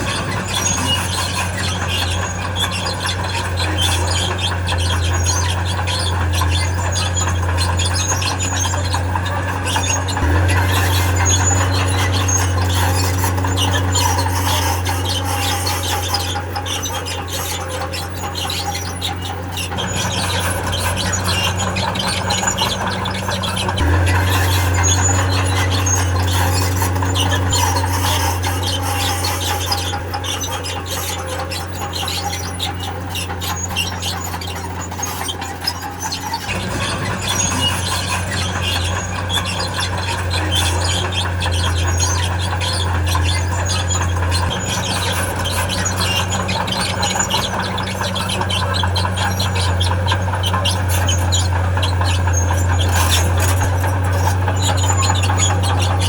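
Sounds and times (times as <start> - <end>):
bulldozer diesel engine under load: 0.0 - 56.0
steel tracks squealing and grinding: 0.0 - 56.0.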